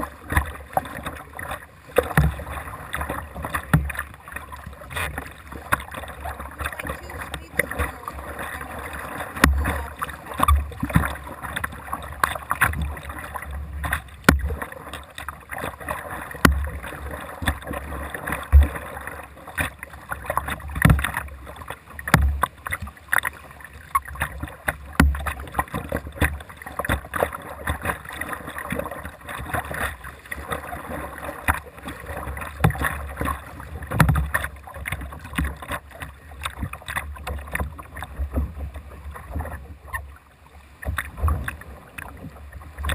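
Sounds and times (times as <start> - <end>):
low thump through boat: 0.0 - 42.9
paddle blades splashing: 0.0 - 42.9
water washing along hull: 0.0 - 42.9.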